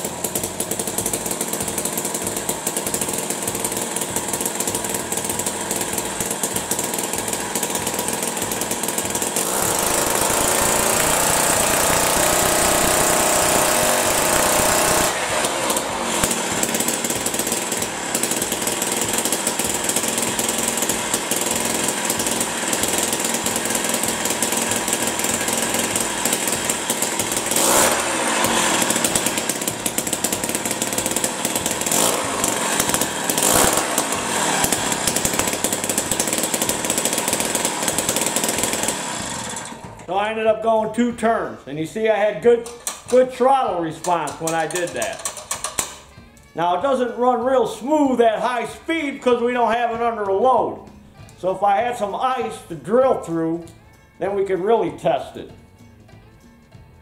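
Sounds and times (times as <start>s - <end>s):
two-stroke engine revving: 0.0s - 50.8s.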